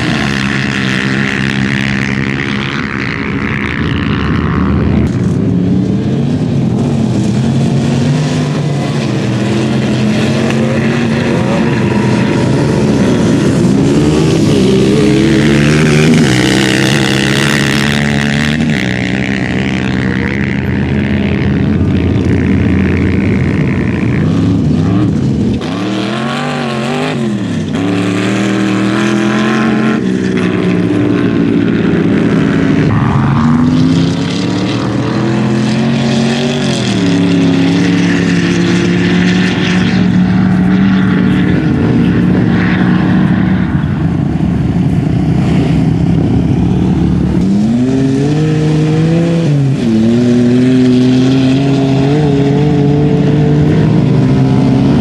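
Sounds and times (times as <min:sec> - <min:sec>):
off-road engines revving: 0:00.0 - 0:55.0.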